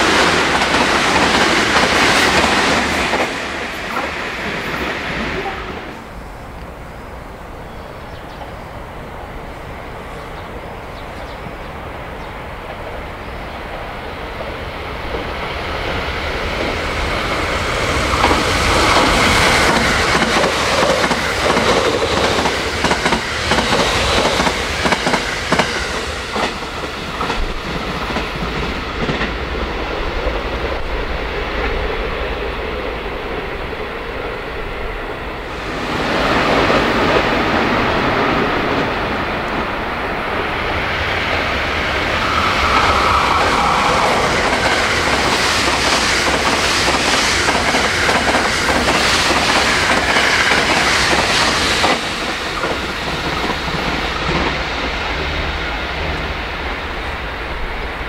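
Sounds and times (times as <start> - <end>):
electric train rushing past: 0.0 - 58.0
train approaching with steady rush: 0.0 - 58.0.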